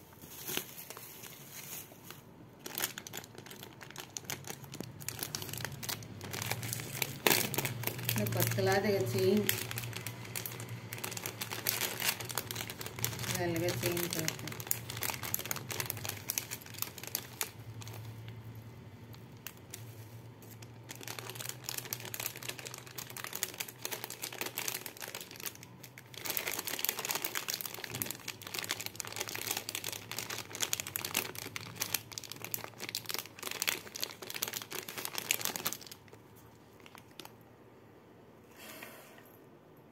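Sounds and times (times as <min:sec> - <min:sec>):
plastic packaging crinkling: 0:00.0 - 0:37.4.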